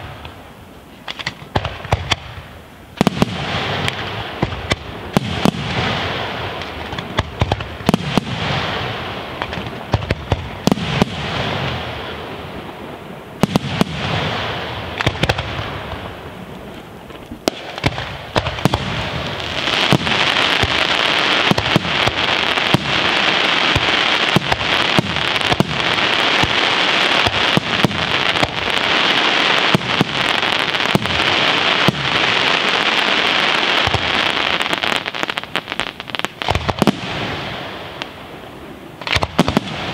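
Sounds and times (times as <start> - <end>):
fireworks bursting: 0.0 - 39.9
fireworks crackling: 0.0 - 39.9.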